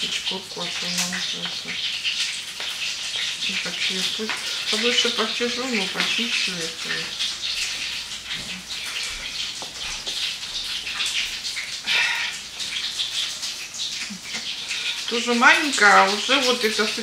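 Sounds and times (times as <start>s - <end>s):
kitchen tap running: 0.0s - 17.0s
water splashing over vegetables: 0.0s - 17.0s.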